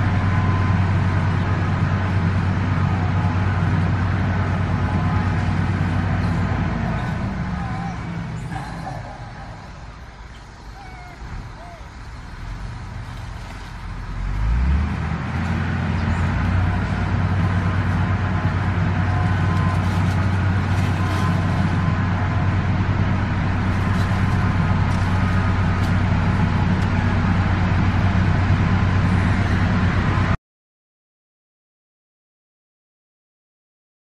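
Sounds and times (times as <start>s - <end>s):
engine running with low hum: 0.0s - 30.4s.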